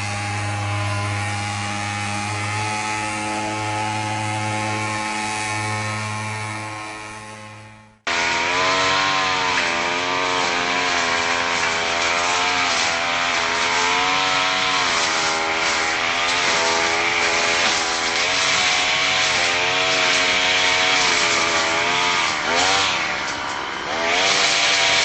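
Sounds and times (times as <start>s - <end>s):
chainsaw running at high revs: 0.0s - 25.0s.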